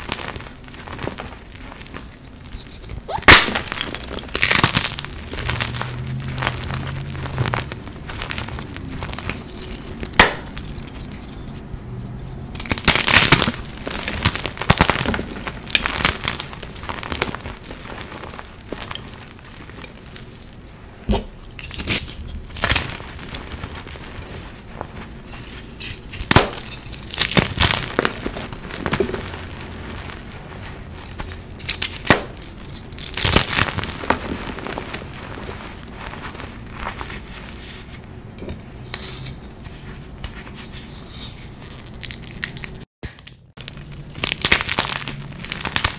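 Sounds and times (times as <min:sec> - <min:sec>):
chalk crunching and crackling: 0:00.0 - 0:38.1, 0:43.5 - 0:45.9.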